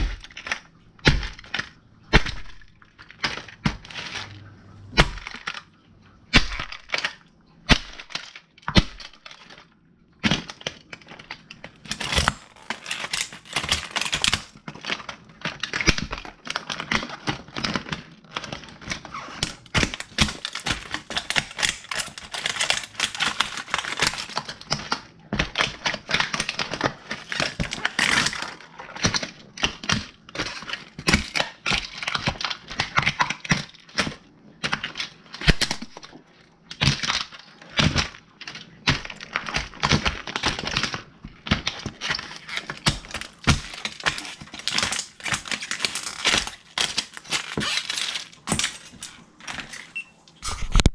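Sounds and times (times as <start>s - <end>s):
plastic cracking and snapping: 0.0s - 50.9s.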